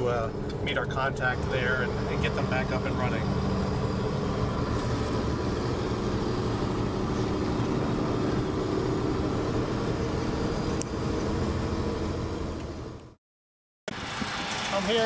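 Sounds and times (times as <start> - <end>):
truck engine and road noise: 0.0 - 13.2, 13.9 - 15.0.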